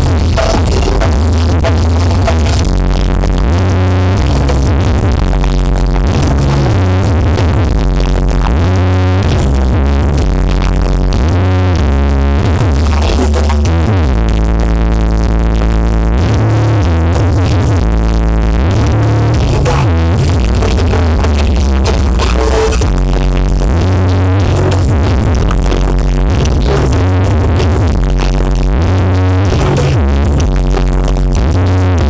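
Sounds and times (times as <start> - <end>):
loud electronic dance music: 0.0 - 11.8, 12.4 - 32.0.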